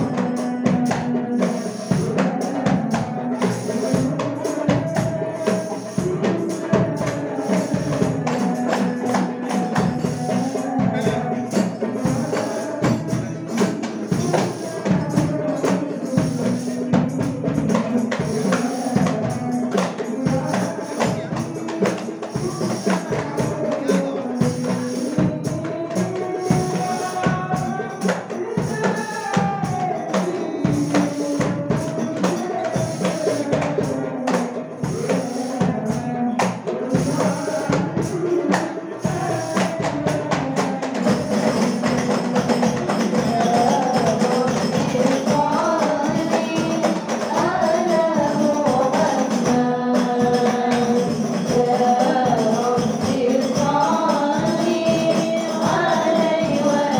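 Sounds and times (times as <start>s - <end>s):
frame drums beating: 0.0s - 56.9s
voices singing: 0.0s - 56.9s.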